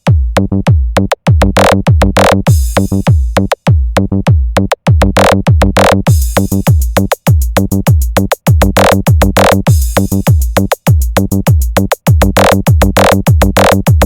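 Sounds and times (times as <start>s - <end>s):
hard kick drums: 0.0s - 14.0s.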